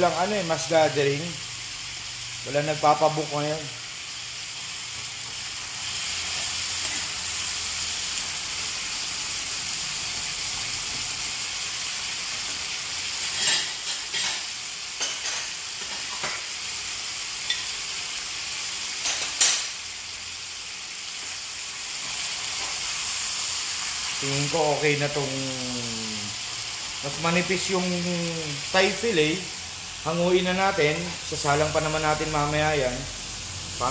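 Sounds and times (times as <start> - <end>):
chicken sizzling in a skillet: 0.0 - 33.9.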